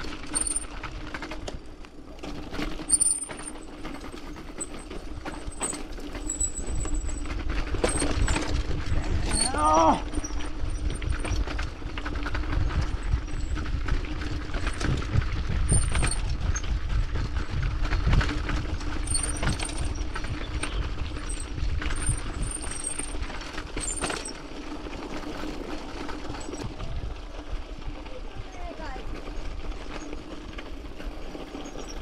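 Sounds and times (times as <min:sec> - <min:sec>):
bike rattling and clicking: 0:00.0 - 0:32.0.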